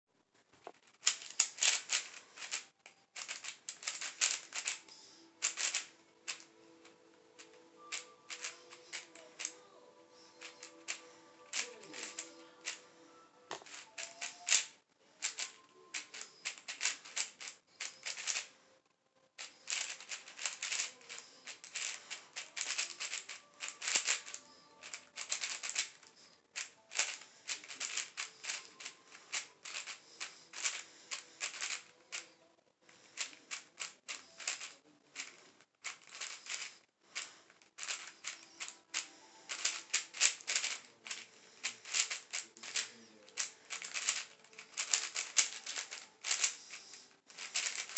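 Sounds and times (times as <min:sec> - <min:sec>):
puzzle cube clacking: 0:00.7 - 0:09.6, 0:10.3 - 0:12.9, 0:13.5 - 0:18.5, 0:19.4 - 0:32.3, 0:32.9 - 0:47.9.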